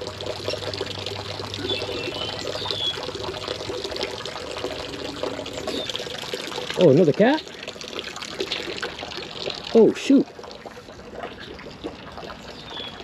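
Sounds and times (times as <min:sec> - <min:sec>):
creek water trickling: 0:00.0 - 0:13.0
low steady hum: 0:00.0 - 0:13.0.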